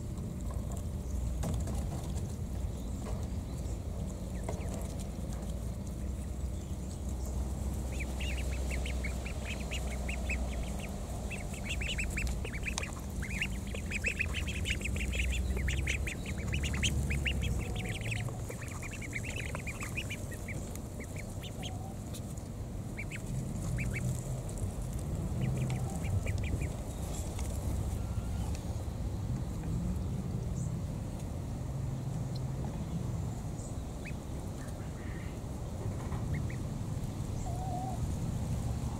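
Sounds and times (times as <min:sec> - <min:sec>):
low rumble: 0:00.0 - 0:34.6
ducklings peeping: 0:00.0 - 0:38.9.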